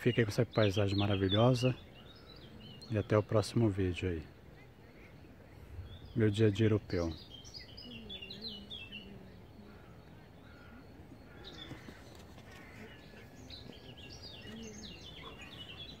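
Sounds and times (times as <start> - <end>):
faint outdoor background: 0.0 - 16.0
small birds chirping: 0.0 - 16.0.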